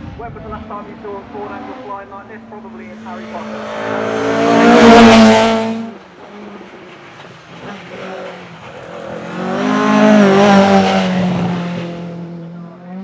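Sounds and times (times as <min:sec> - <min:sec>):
racing car engine: 0:00.5 - 0:13.0.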